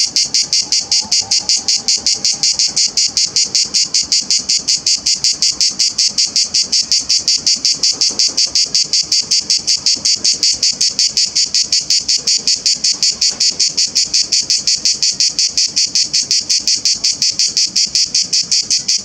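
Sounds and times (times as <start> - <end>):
cicada singing: 0.0 - 19.0.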